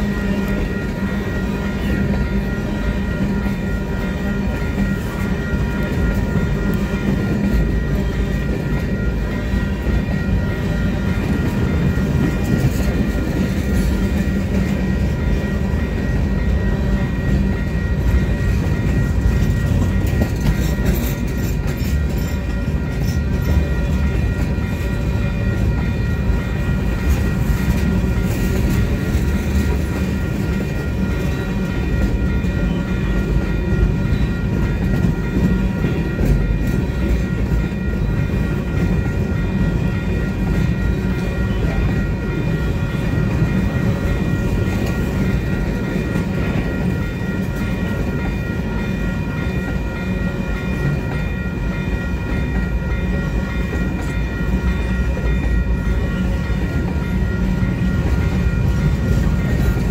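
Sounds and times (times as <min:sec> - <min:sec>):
steel wheels rumbling on rails: 0:00.0 - 0:59.9
thin steady ringing tone: 0:00.0 - 0:59.9.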